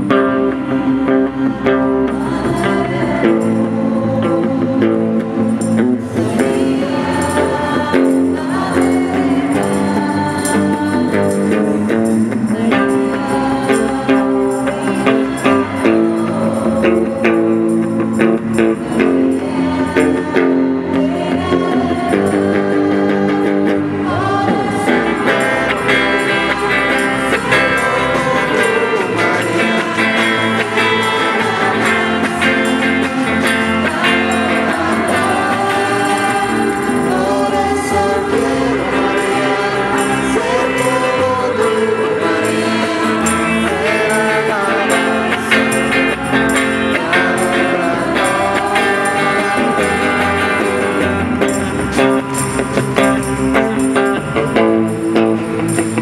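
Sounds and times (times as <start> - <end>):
electric guitars: 0.0 - 56.0
group of singers: 0.0 - 56.0.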